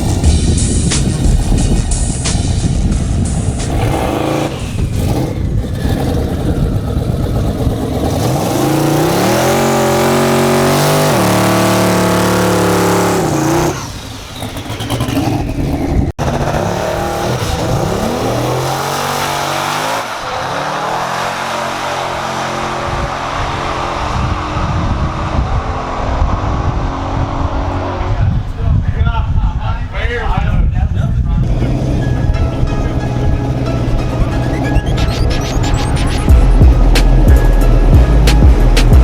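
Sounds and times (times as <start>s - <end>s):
racing car engine accelerating: 0.0s - 28.6s, 31.4s - 39.0s.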